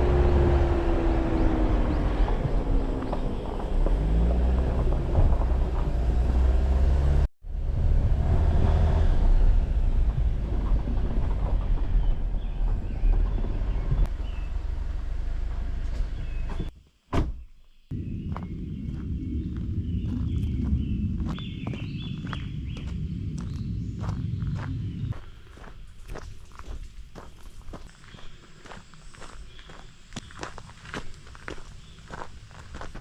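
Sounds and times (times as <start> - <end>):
car engine rumble: 0.0 - 16.7, 17.9 - 27.8
road noise: 0.0 - 16.7, 17.9 - 33.0.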